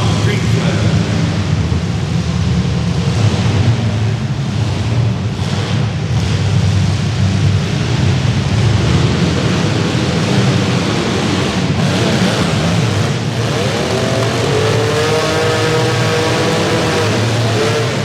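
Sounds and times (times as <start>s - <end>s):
car engines running hard: 0.0s - 18.0s.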